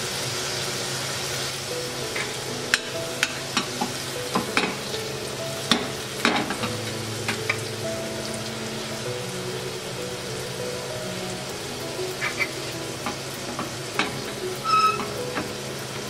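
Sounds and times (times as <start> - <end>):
fish sizzling in a pan: 0.0 - 16.0.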